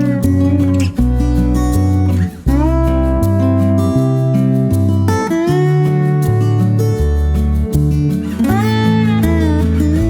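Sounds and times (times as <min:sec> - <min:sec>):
acoustic guitar music: 0:00.0 - 0:10.0
bass line: 0:00.0 - 0:10.0.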